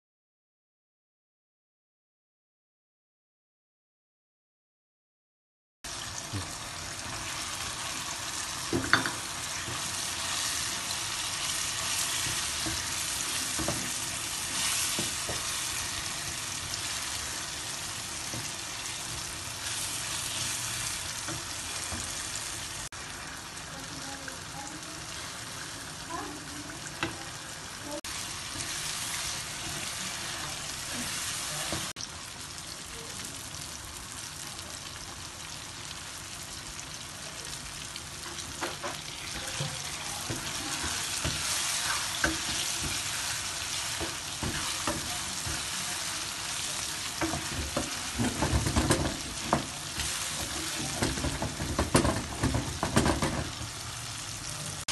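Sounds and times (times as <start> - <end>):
food sizzling in hot oil: 5.9 - 54.9.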